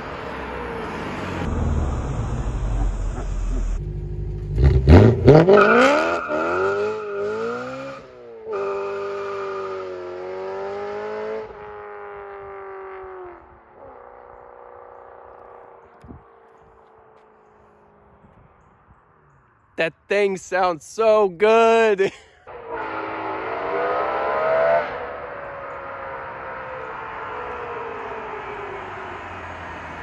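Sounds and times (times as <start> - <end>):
car engine revving: 0.0 - 18.3, 22.5 - 30.0.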